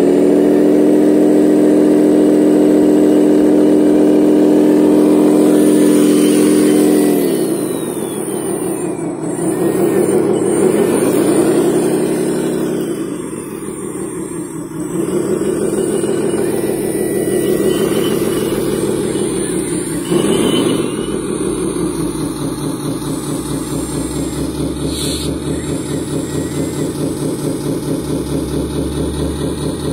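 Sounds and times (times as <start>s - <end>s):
toy loader engine drone: 0.0s - 29.9s.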